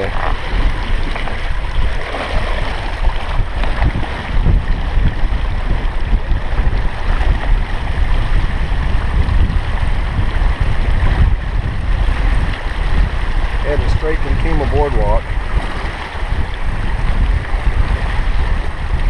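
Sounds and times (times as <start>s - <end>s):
water rushing along a hull: 0.0s - 19.0s
wind buffeting the microphone: 0.0s - 19.0s.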